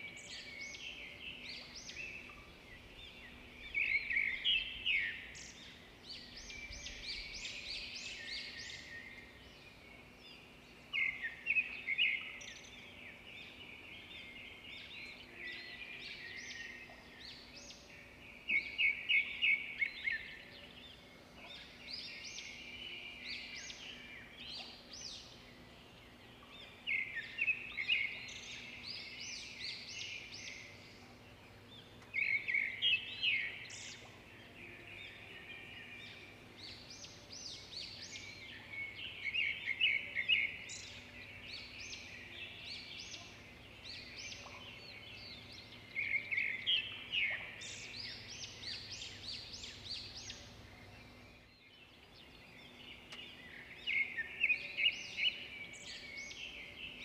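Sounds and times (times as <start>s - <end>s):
quiet birdsong: 0.0s - 57.0s.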